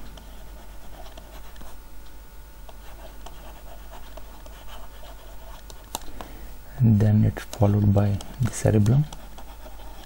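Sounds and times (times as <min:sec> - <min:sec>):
faint steady hum: 0:00.0 - 0:10.0
stylus tapping and scratching: 0:00.1 - 0:01.8, 0:02.6 - 0:06.3, 0:07.2 - 0:10.0.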